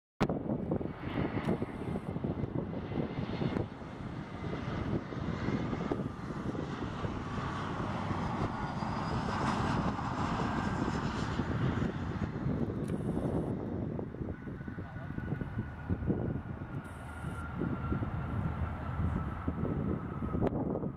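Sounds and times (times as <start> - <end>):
jet engine whine: 0.2 - 20.9
jet engines on approach: 0.2 - 20.9
wind buffeting microphone: 0.2 - 20.9.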